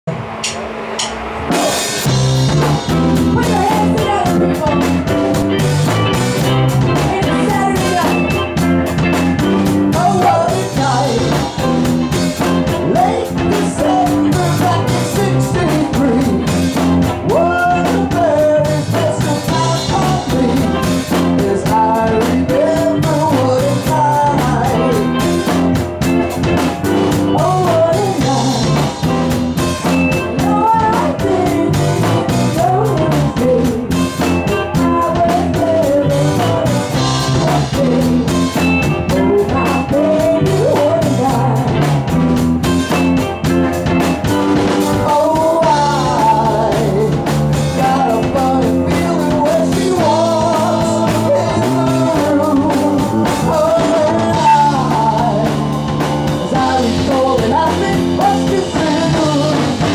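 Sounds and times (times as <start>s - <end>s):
rock band playing: 0.0s - 59.9s
woman singing: 3.3s - 5.1s, 6.8s - 9.2s, 9.9s - 11.7s, 12.7s - 25.7s, 27.1s - 29.0s, 30.1s - 42.1s, 44.8s - 59.9s.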